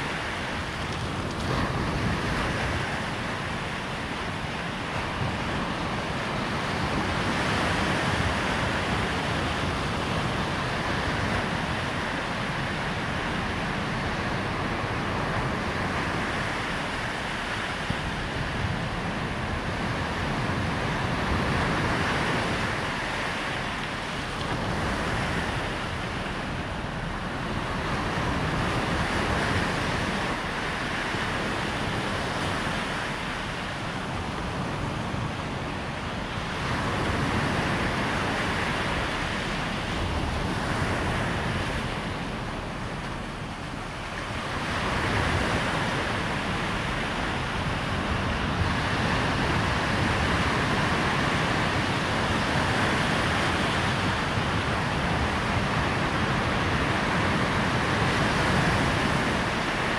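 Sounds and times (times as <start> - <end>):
surf breaking on shore: 0.0 - 59.9
wind rumbling on microphone: 0.0 - 59.9.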